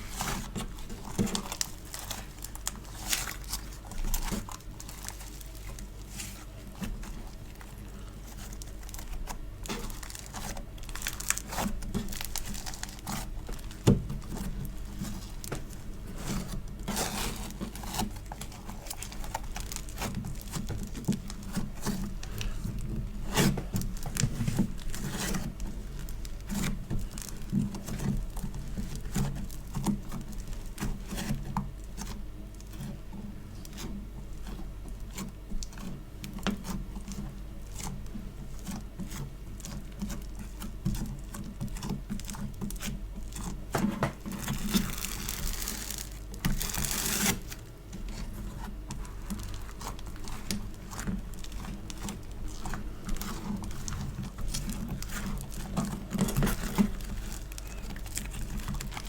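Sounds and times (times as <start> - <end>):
sticky clay crackles and pops: 0.0 - 59.0.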